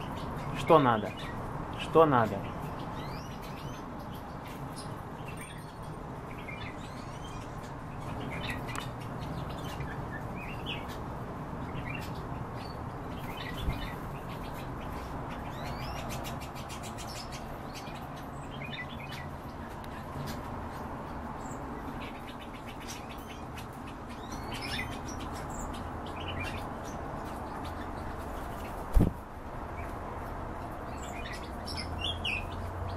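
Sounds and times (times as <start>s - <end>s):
birds chirping: 0.0s - 32.9s.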